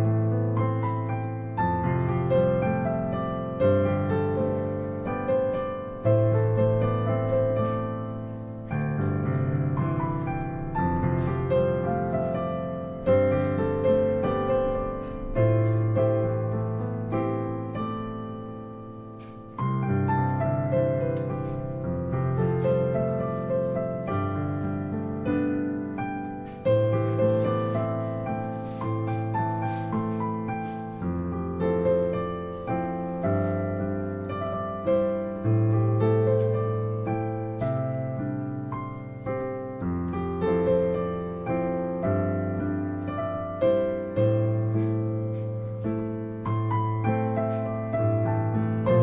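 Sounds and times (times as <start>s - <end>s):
digital piano chords: 0.0s - 49.0s.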